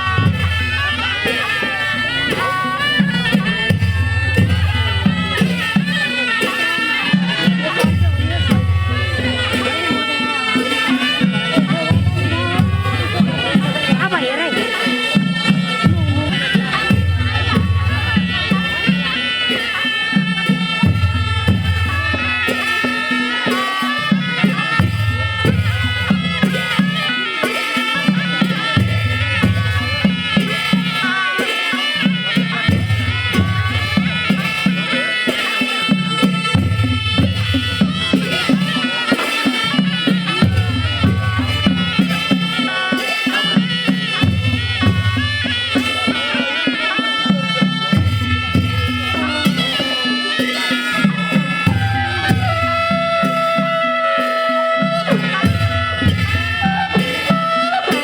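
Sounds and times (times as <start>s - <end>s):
folk music: 0.0s - 58.0s.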